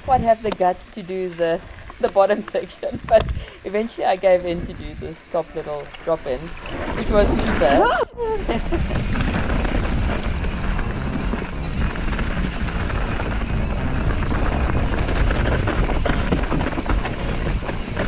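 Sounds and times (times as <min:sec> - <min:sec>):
bike tyres rattling over dirt: 0:00.0 - 0:18.0
wind buffeting microphone: 0:00.0 - 0:18.0.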